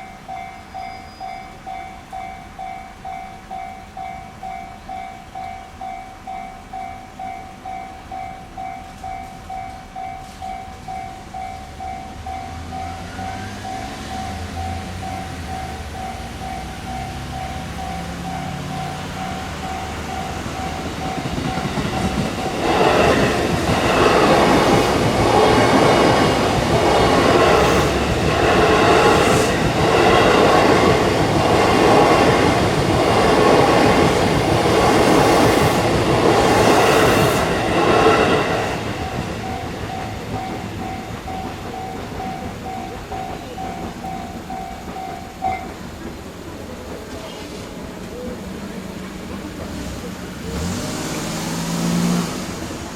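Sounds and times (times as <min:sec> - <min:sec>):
train wheels clacking on rails: 0:00.0 - 0:52.9.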